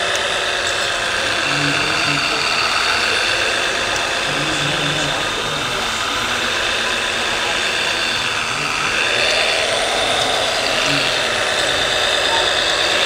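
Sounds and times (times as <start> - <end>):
simulated diesel engine sound: 0.0 - 13.0.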